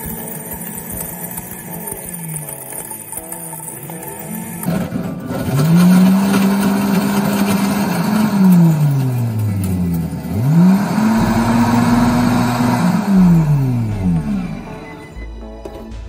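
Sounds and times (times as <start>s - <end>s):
blender motor whining: 0.0s - 15.1s
ice churning in blender jar: 0.0s - 15.1s.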